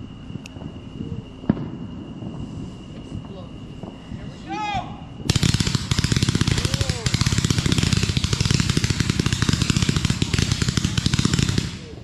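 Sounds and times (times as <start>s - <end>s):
firework barrage crackling pops: 0.0s - 4.3s, 5.2s - 12.0s.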